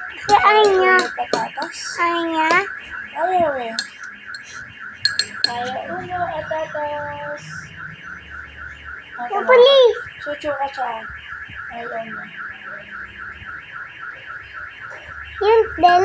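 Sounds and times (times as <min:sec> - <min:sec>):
alarm-like warble: 0:00.0 - 0:16.0.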